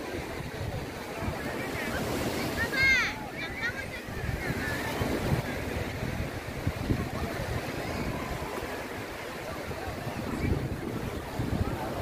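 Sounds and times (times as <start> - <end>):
faint crowd chatter: 0.0 - 12.0
surf: 0.0 - 12.0
wind buffeting microphone: 0.0 - 12.0.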